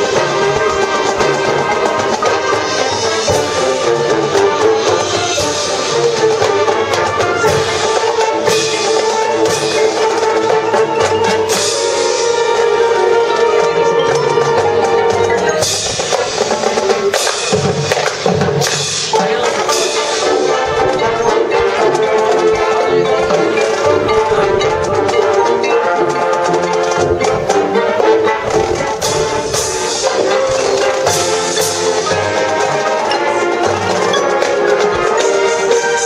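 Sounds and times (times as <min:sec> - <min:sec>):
drumline: 0:00.0 - 0:36.0
front-ensemble percussion: 0:00.0 - 0:36.0
held wind chords: 0:00.0 - 0:36.0.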